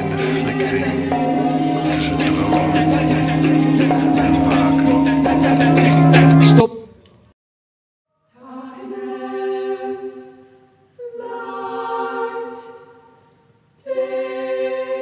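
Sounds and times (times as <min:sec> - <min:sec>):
choir singing a cappella: 0:00.0 - 0:06.6, 0:08.4 - 0:13.2, 0:13.8 - 0:15.0.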